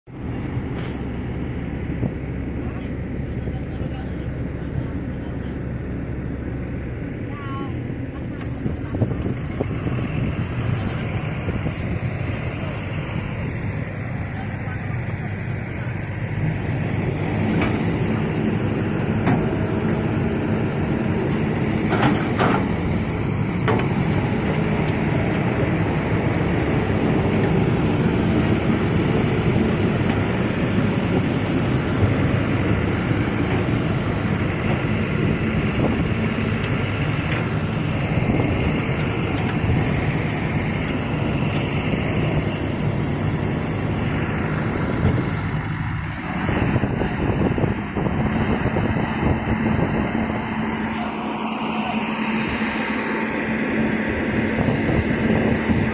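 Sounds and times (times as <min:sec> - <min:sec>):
excavator engine under load: 0:00.1 - 0:55.9.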